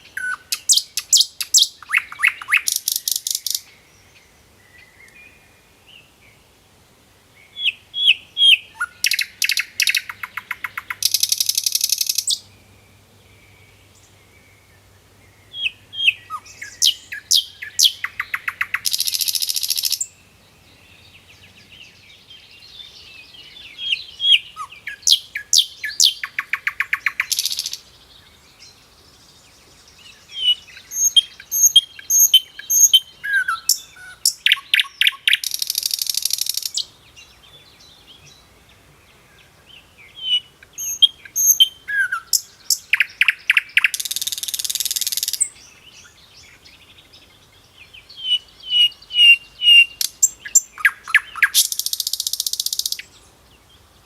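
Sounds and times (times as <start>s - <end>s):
songbird chirps and trill: 0.0s - 54.0s.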